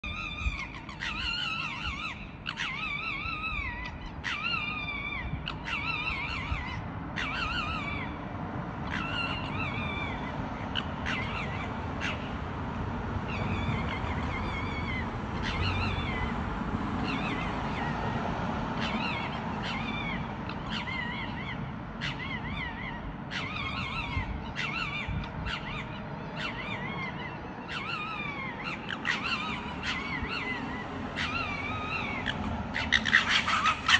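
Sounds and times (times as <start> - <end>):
foxes calling high-pitched: 0.0 - 8.2, 8.8 - 12.4, 13.3 - 16.4, 17.0 - 18.1, 18.8 - 33.9.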